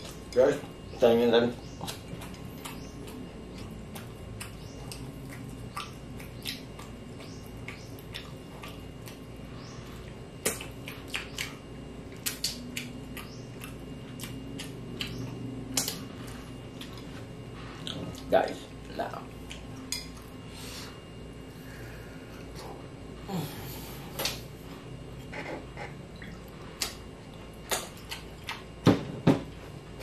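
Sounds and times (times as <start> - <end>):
steady low hum: 0.0 - 30.0
chewing and lip-smacking: 1.6 - 21.1, 24.2 - 28.8.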